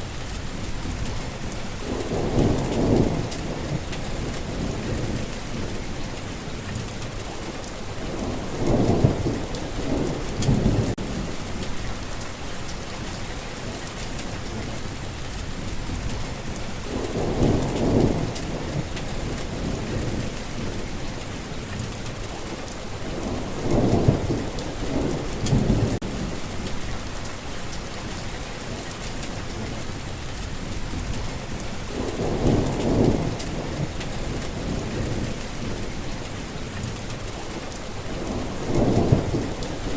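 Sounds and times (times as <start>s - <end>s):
steady rain falling: 0.0s - 39.9s
low rolls of thunder: 0.4s - 12.2s, 15.5s - 27.3s, 30.4s - 39.9s.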